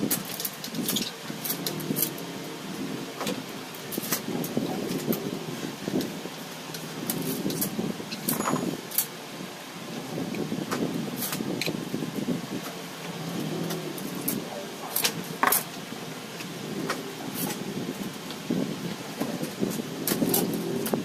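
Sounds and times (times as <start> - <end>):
steady low background noise: 0.0 - 21.0.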